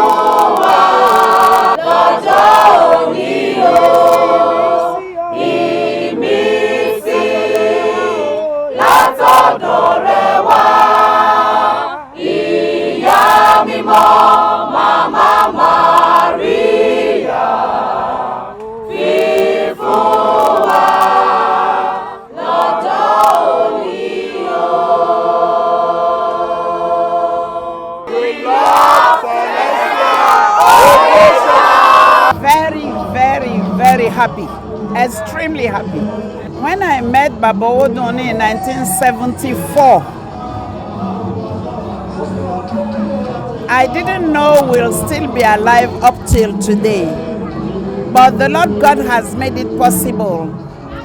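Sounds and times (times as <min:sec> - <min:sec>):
church choir singing: 0:00.0 - 0:51.0.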